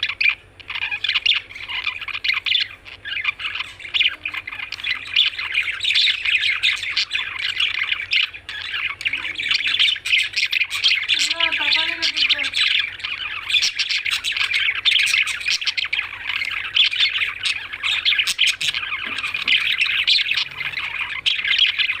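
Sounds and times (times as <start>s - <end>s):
lovebirds chirping: 0.0s - 22.0s.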